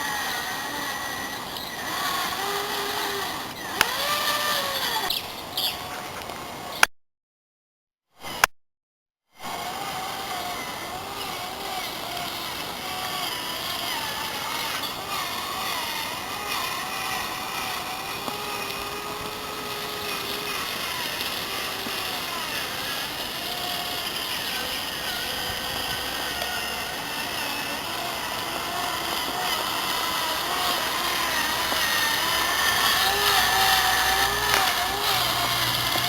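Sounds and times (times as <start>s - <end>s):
electric motor whine: 0.0s - 6.8s, 9.4s - 36.0s.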